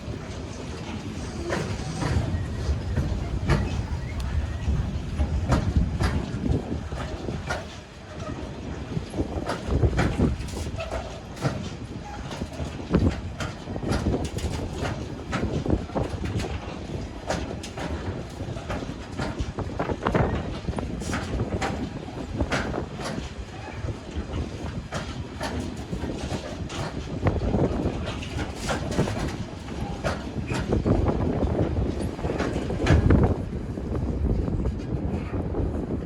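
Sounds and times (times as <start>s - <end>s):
low train rumble: 0.0s - 36.0s
train wheels clicking over rail joints: 0.0s - 36.0s.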